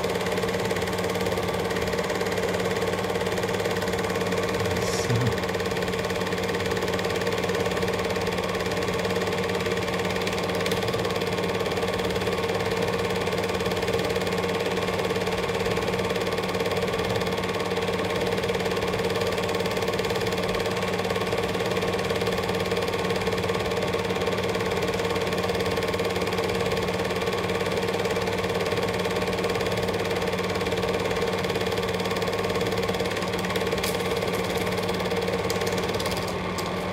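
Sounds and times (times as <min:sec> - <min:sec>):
film projector whirring: 0:00.0 - 0:36.9.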